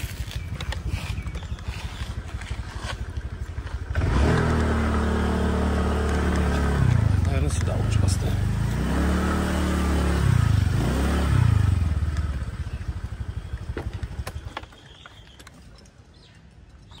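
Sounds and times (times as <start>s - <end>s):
motorbike engine running: 0.0s - 15.4s.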